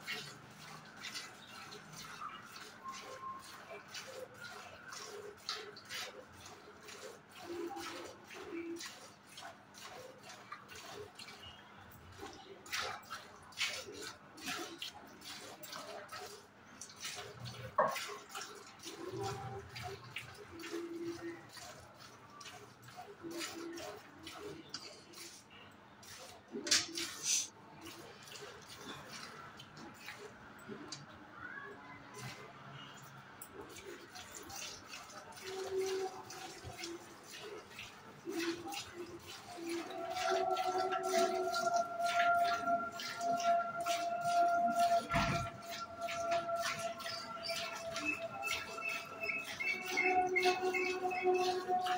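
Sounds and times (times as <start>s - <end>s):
milk squirting into a pail: 0.0s - 31.2s, 32.1s - 51.9s.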